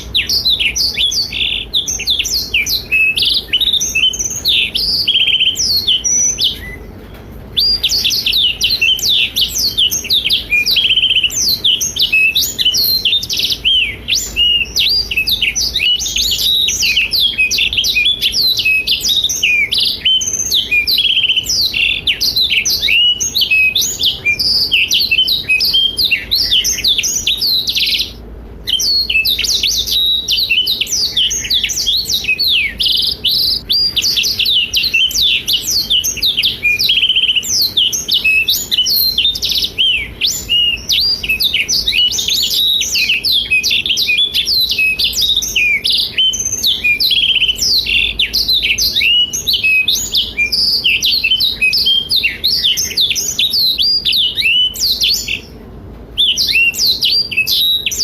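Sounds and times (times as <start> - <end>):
canary singing twittering trills: 0.0 - 58.0.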